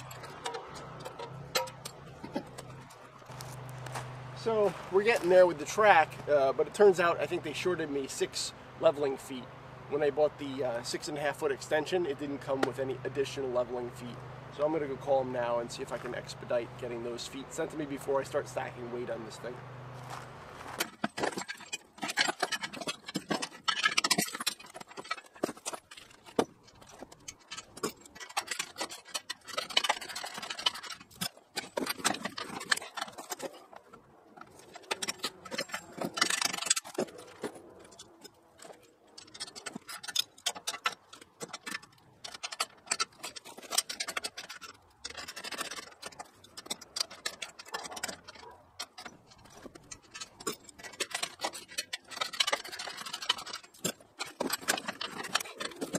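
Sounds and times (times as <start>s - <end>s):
metal parts scraping and knocking: 0.0s - 9.4s, 10.0s - 55.9s.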